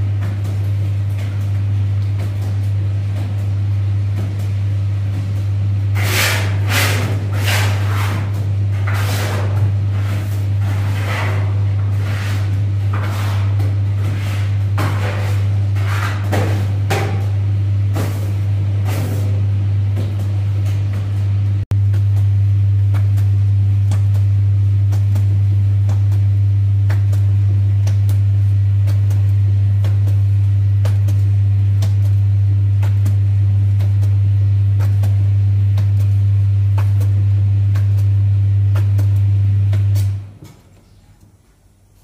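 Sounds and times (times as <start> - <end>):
machine humming: 0.0 - 41.0.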